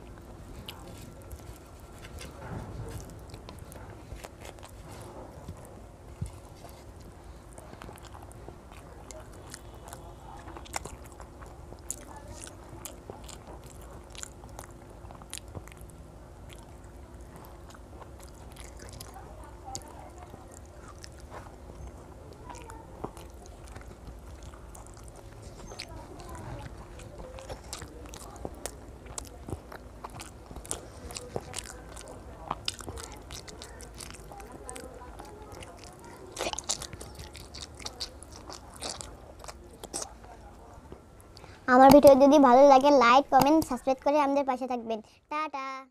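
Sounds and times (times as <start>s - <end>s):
boy chewing with wet mouth clicks: 0.0s - 42.2s, 43.4s - 43.9s
steady low hum: 0.0s - 45.9s.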